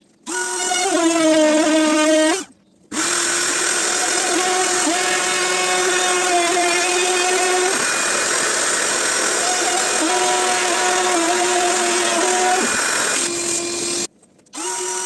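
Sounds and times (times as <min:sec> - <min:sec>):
router whining while cutting wood: 0:00.3 - 0:15.0.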